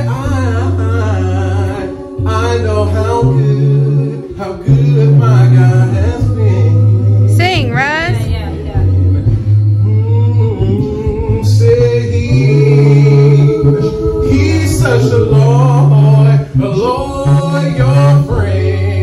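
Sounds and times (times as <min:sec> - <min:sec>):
man singing lead: 0:00.0 - 0:08.2, 0:09.1 - 0:19.0
deep sung bass line: 0:00.0 - 0:19.0
vocal ensemble singing in harmony: 0:00.0 - 0:19.0.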